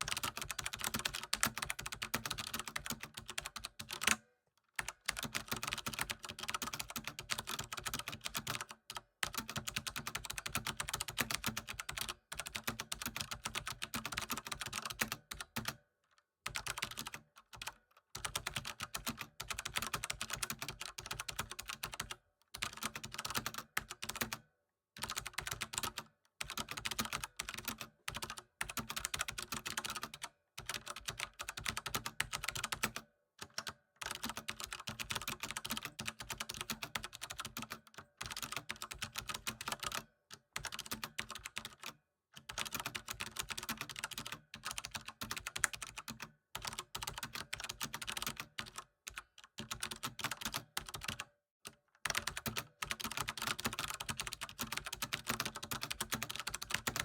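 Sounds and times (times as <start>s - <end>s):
typing on computer keyboard: 0.0s - 4.2s, 4.8s - 15.8s, 16.4s - 57.0s.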